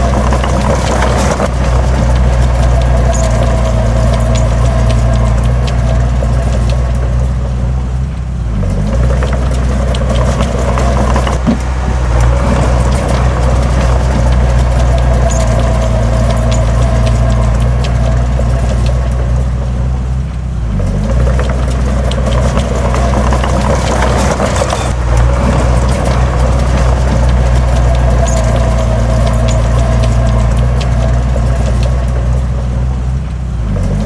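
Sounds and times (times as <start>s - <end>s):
clicks and rattles: 0.0s - 34.0s
diesel engine running: 0.0s - 34.0s.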